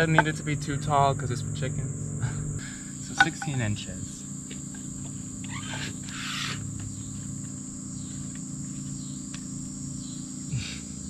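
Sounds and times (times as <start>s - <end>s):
insects chirring: 0.0s - 11.0s
low steady hum: 0.0s - 11.0s.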